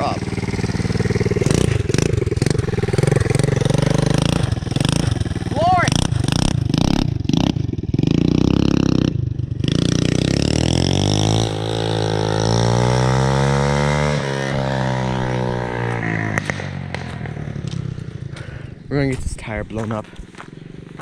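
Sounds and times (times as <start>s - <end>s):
small engine chugging and revving: 0.0s - 18.9s, 19.8s - 21.0s.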